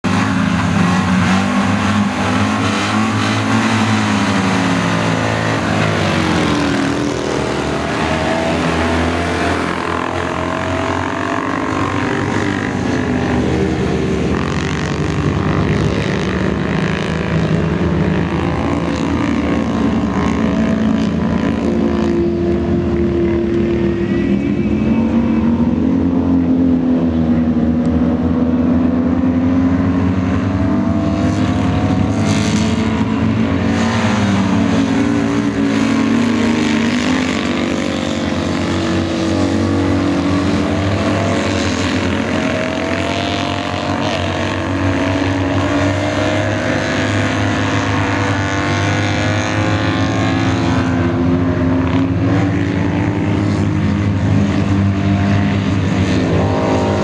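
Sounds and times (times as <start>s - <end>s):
racing car engines revving: 0.0s - 57.0s.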